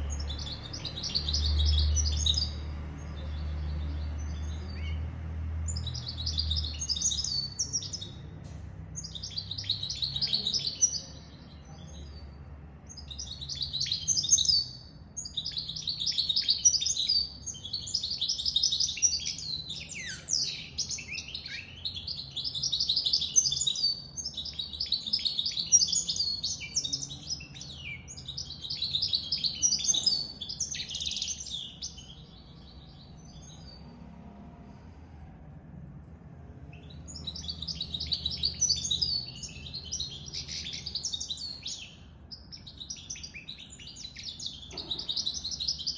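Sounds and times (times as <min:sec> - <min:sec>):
bird twittering song: 0:00.0 - 0:34.0, 0:36.6 - 0:45.9.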